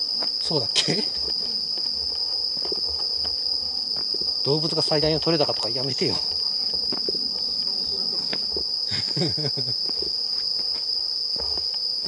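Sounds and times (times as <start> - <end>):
soft footsteps on path: 0.0 - 4.7, 5.5 - 8.8, 9.7 - 12.0
night insects trilling: 0.0 - 12.0.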